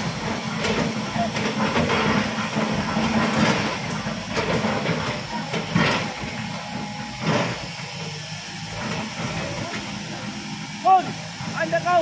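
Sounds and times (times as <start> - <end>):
excavator engine and hydraulics: 0.0 - 12.0.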